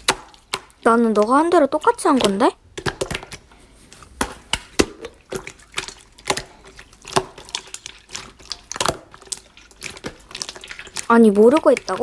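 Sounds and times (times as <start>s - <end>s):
slime clicking and popping: 0.0s - 3.4s, 4.2s - 12.0s.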